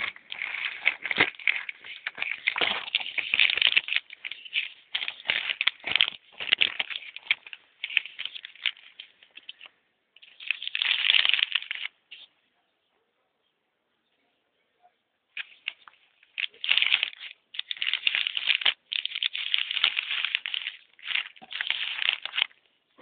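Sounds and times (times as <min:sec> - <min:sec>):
plastic breadboard crackling: 0:00.0 - 0:12.3, 0:15.4 - 0:23.0.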